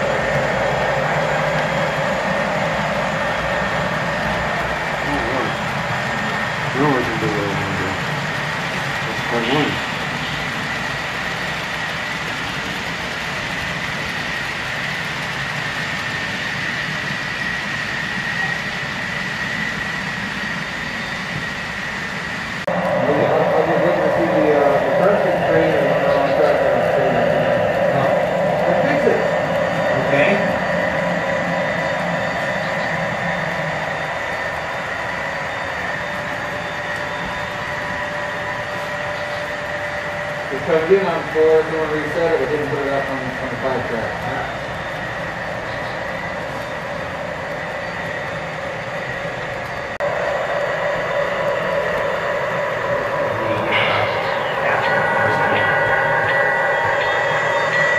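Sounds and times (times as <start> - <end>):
high whine: 0.0 - 57.9
model train wheels rumbling: 0.0 - 57.9.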